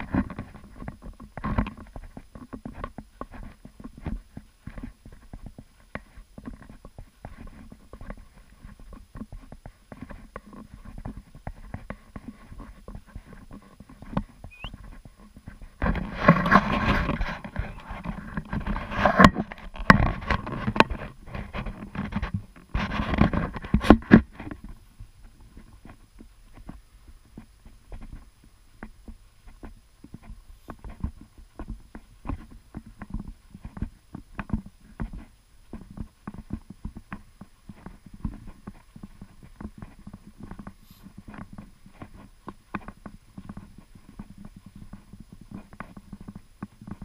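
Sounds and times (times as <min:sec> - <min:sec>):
rustling and knocks: 0:00.0 - 0:47.0.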